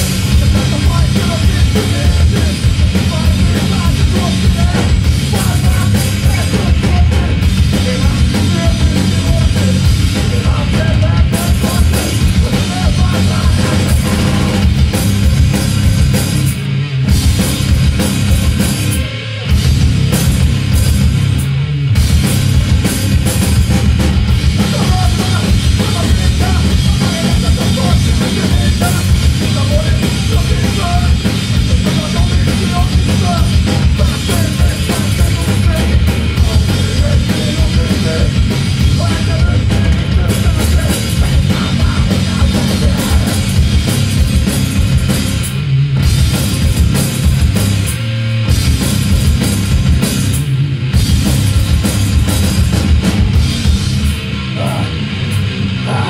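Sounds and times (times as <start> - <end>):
bass guitar: 0.0 - 56.0
distorted electric guitars: 0.0 - 56.0
pounding drum kit: 0.0 - 56.0.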